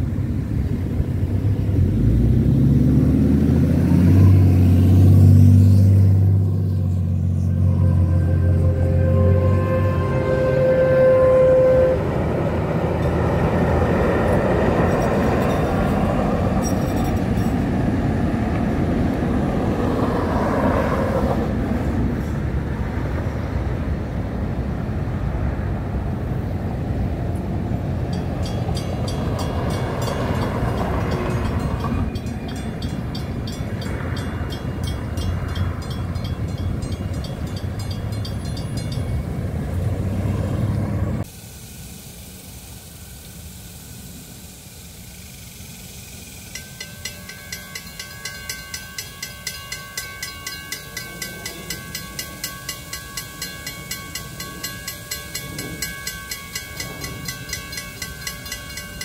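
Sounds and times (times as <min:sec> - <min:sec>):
train wheels rumbling on rails: 0:00.0 - 0:41.3, 0:45.8 - 0:59.0.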